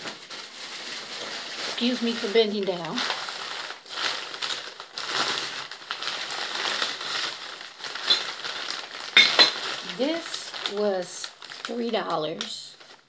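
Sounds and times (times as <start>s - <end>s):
newspaper wrapping rustling: 0.0s - 13.0s
plastic bag crinkling: 0.0s - 13.0s.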